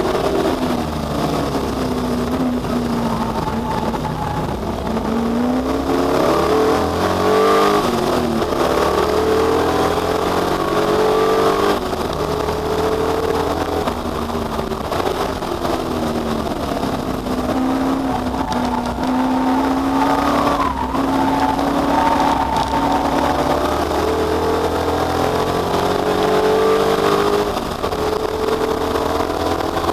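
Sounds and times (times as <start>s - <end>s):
race car engines at full throttle: 0.0s - 29.9s.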